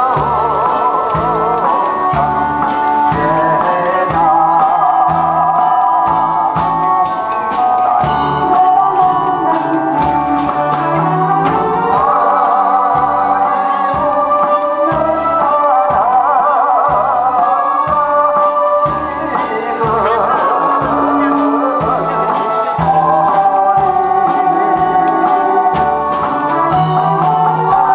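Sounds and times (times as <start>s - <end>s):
bass beat: 0.0s - 16.2s, 18.9s - 25.2s
amplified backing music: 0.0s - 27.9s
man singing into a microphone: 0.0s - 27.9s.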